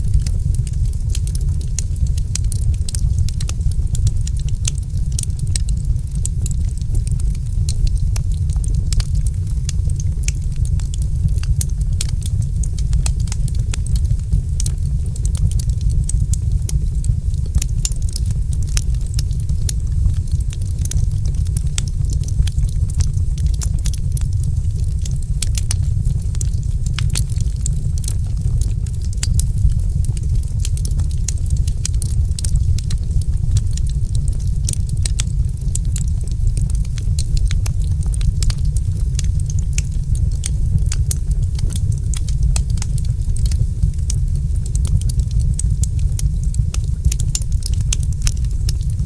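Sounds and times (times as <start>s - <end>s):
low rumble of flames: 0.0s - 49.0s
wood fire snapping and popping: 0.0s - 49.0s.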